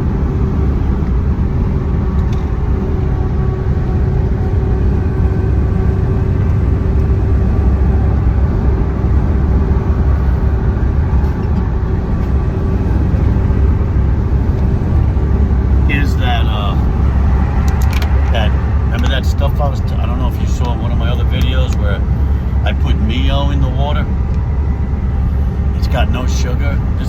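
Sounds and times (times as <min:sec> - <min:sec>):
faint steady hum: 0:00.0 - 0:27.0
road noise: 0:00.0 - 0:27.0
truck engine rumble: 0:00.0 - 0:27.0.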